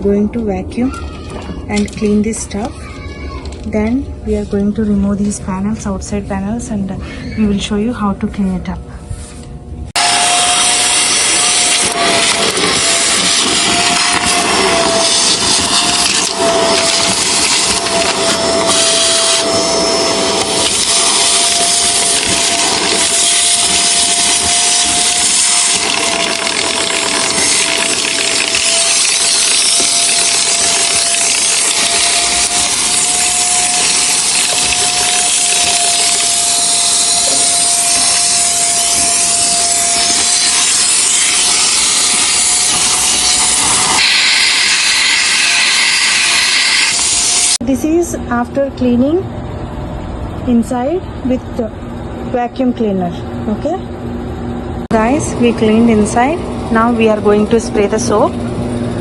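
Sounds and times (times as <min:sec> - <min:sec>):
vacuum cleaner running: 0:03.6 - 0:49.2, 0:54.8 - 0:59.0.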